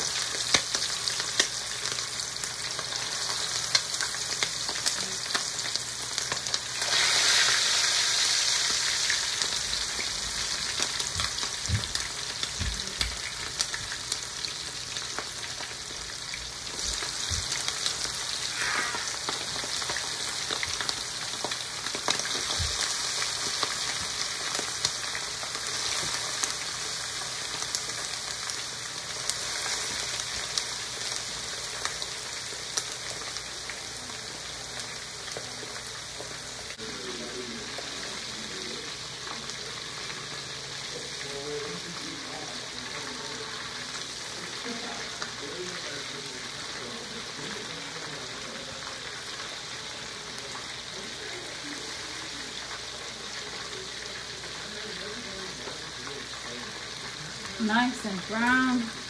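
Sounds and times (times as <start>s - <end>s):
chicken sizzling in oil: 0.0s - 59.0s.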